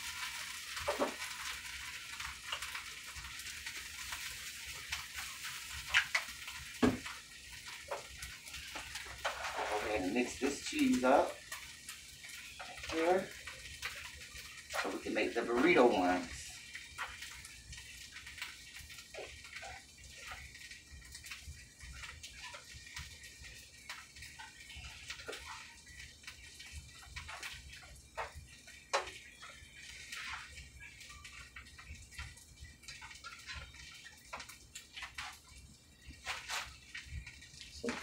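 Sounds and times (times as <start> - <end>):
spoon scraping a skillet: 0.2 - 38.0.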